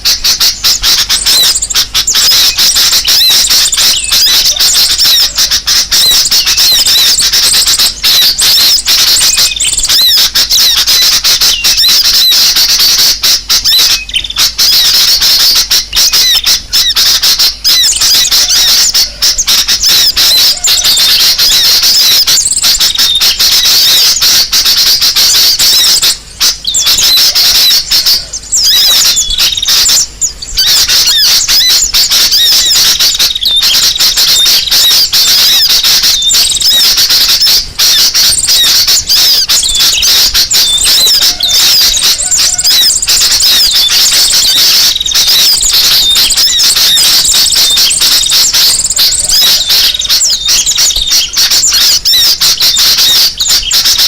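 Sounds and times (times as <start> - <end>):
small birds chirping and squeaking: 0.0 - 54.0.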